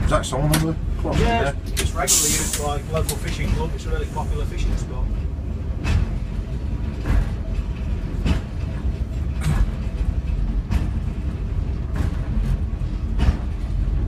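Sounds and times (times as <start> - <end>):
diesel railbus engine rumble: 0.0 - 14.0.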